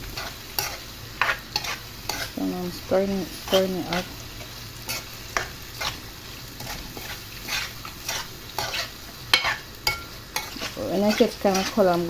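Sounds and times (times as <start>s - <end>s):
prawns sizzling in oil: 0.0s - 12.0s
utensil scraping a pan: 0.1s - 2.4s, 3.5s - 6.0s, 6.6s - 12.0s.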